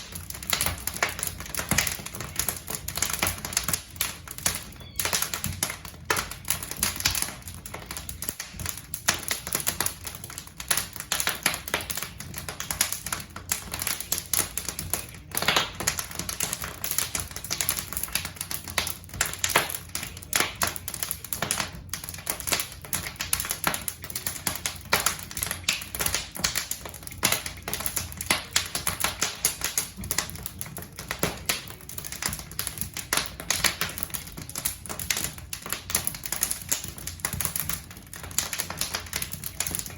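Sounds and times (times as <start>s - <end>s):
logs crackling in a fireplace: 0.0s - 39.9s.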